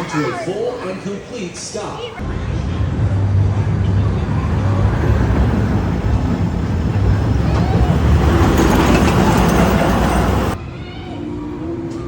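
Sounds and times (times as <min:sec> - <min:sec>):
roller coaster rumbling on track: 0:02.2 - 0:12.0.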